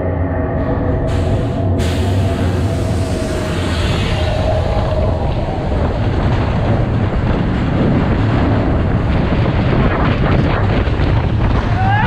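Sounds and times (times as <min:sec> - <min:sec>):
roller coaster rumbling: 0:00.0 - 0:12.0
wind on microphone: 0:00.0 - 0:12.0.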